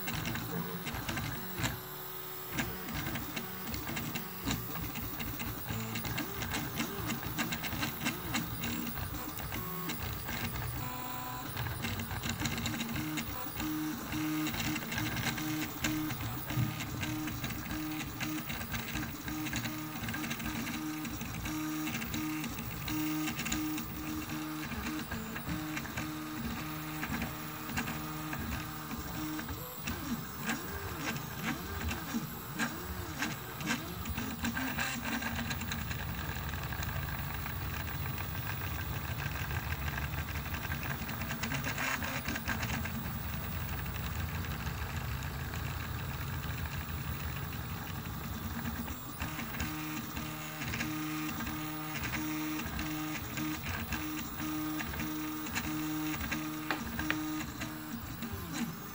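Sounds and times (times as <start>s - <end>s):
printer stepper motors whining: 0.0s - 58.9s.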